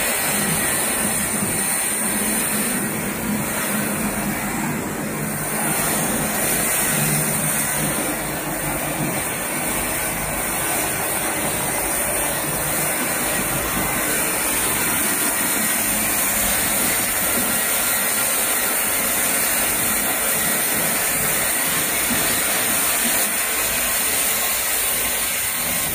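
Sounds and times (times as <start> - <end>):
washing machine water spraying: 0.0 - 25.9.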